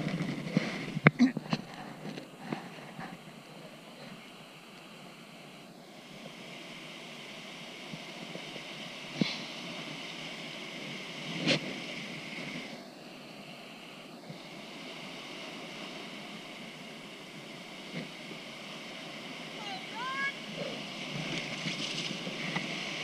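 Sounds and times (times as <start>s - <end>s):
river rapids rushing: 2.3s - 23.0s.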